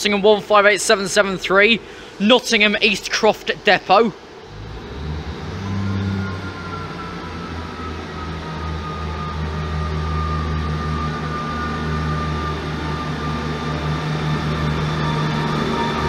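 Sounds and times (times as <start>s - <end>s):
diesel train engine hum: 0.0s - 16.0s
high train whine: 0.0s - 16.0s.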